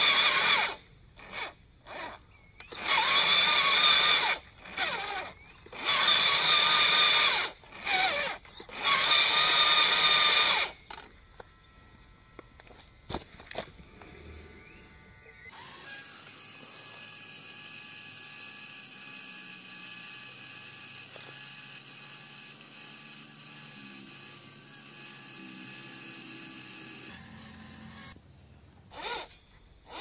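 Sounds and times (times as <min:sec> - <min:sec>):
small electric motor and gearbox whining: 0:00.0 - 0:30.0.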